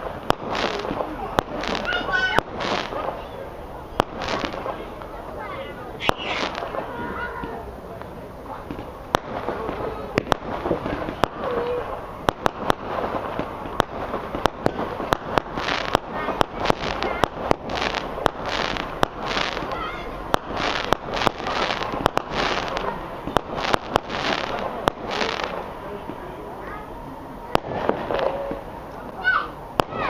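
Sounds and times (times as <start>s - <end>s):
distant firework bangs: 0.0s - 30.0s
hissing firework shots: 0.0s - 30.0s.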